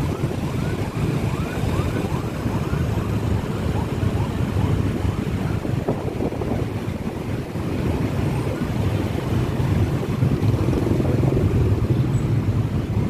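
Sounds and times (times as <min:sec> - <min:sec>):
motorcycle engines running: 0:00.0 - 0:13.0
wind buffeting microphone: 0:00.0 - 0:13.0.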